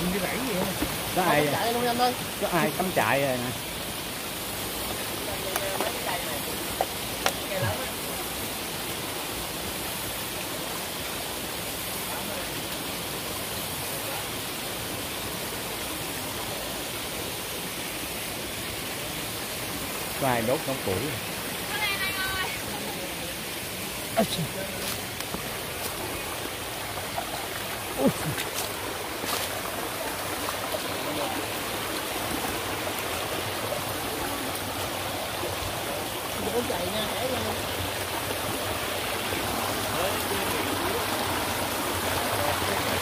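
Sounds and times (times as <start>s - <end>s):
flowing water rushing: 0.0s - 43.0s.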